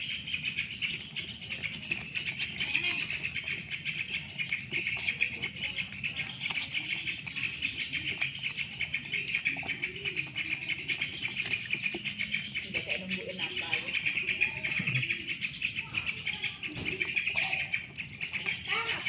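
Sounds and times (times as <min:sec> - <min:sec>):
otter chewing with wet crunching: 0:00.0 - 0:19.0.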